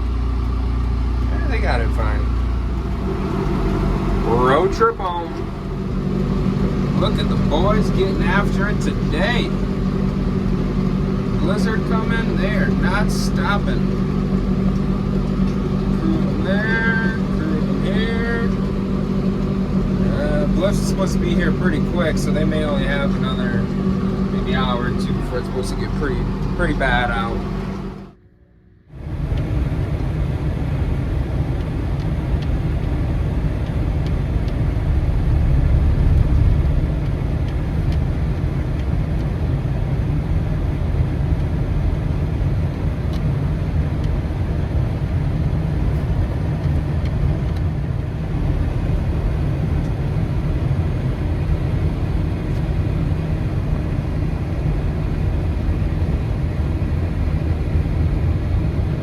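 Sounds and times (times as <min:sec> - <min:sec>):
motor vehicle rumble: 0:00.0 - 0:59.0.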